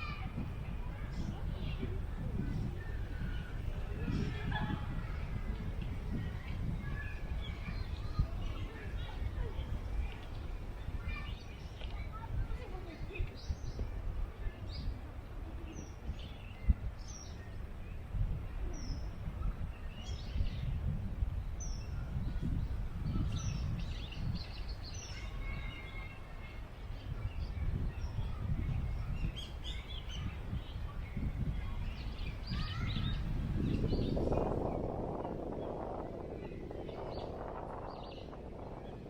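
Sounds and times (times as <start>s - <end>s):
wind buffeting microphone: 0.0s - 39.0s
small birds chirping: 0.9s - 39.0s.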